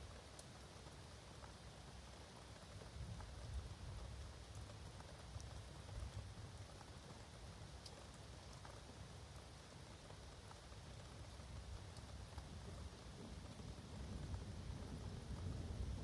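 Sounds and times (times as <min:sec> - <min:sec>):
faint rain falling: 0:00.0 - 0:16.0.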